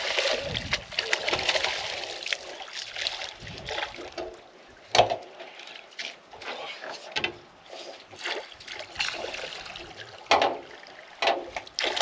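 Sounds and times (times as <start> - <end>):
water sloshing beside a boat: 0.0 - 12.0.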